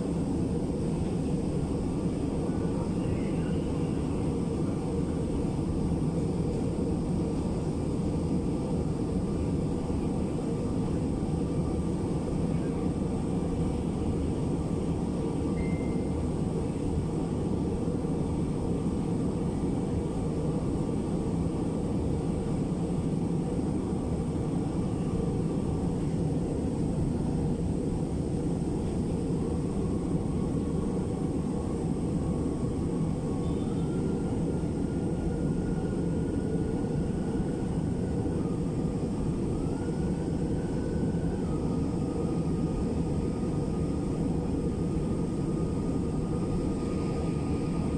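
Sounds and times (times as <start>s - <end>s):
faint high whine: 0.0s - 47.9s
moving train rumble: 0.0s - 47.9s.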